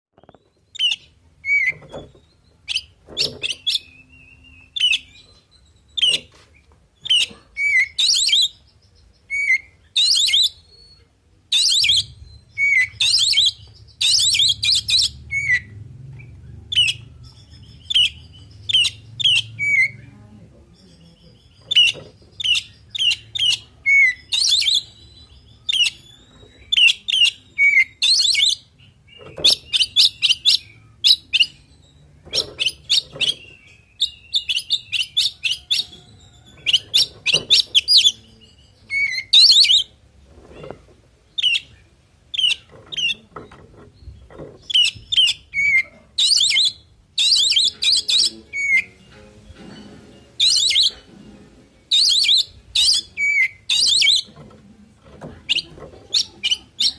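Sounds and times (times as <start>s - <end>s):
songbird chattering and whistling: 0.2s - 20.1s, 20.7s - 40.0s, 41.2s - 49.0s, 50.4s - 51.1s, 51.8s - 54.5s, 55.4s - 56.9s.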